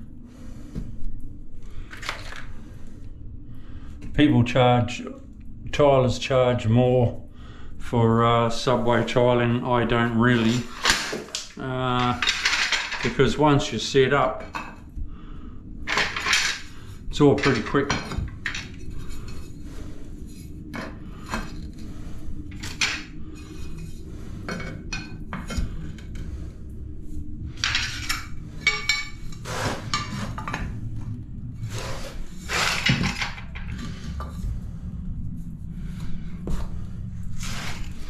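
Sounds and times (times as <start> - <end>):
low background rumble: 0.0 - 38.0.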